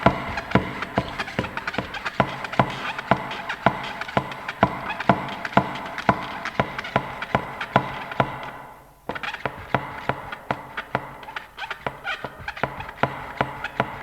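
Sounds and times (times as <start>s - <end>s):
sharp evenly paced knocks: 0.0s - 14.0s.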